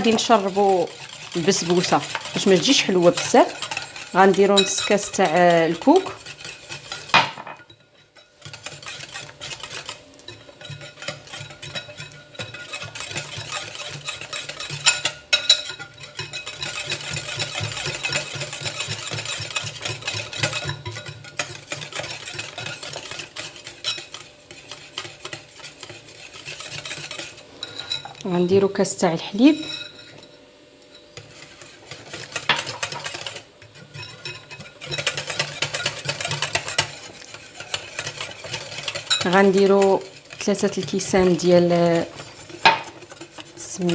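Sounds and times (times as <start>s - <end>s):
batter stirred in a bowl: 0.0s - 43.9s.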